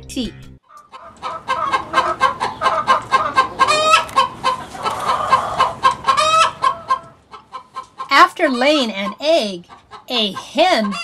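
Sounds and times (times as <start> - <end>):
hen clucking rapidly: 0.7 - 11.0.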